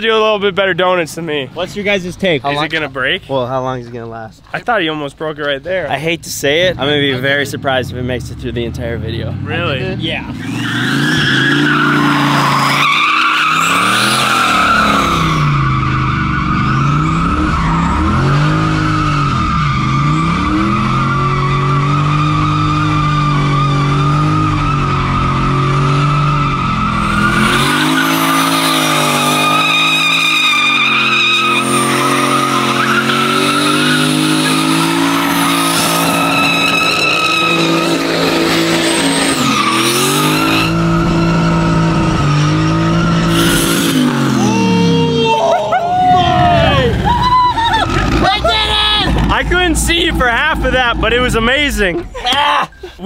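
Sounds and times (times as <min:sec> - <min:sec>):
car engine revving: 0:06.5 - 0:45.1, 0:46.1 - 0:52.1
tyres squealing: 0:10.3 - 0:52.9.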